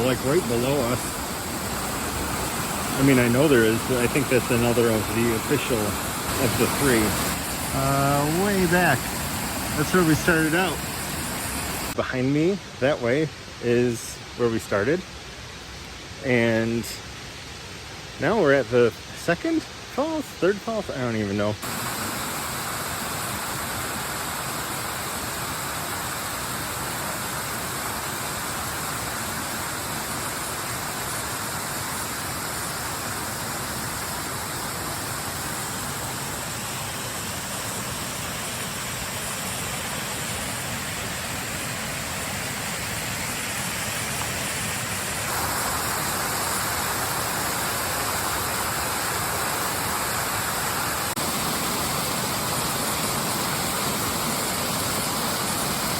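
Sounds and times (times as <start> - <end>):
waterfall rushing: 0.0 - 12.8, 15.7 - 55.9.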